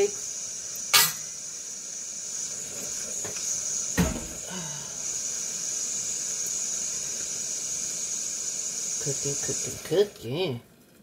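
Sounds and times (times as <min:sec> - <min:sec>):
eggs sizzling in a pan: 0:00.0 - 0:11.0.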